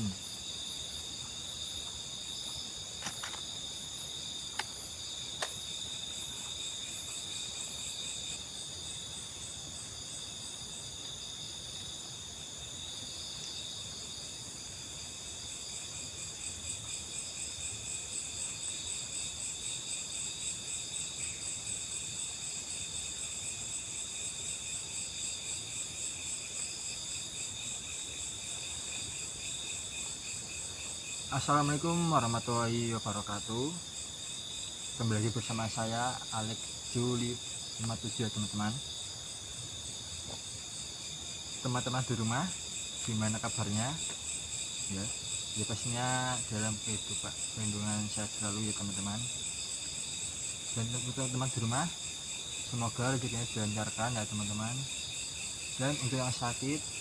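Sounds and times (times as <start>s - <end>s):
crickets and insects chirping: 0.0s - 57.0s.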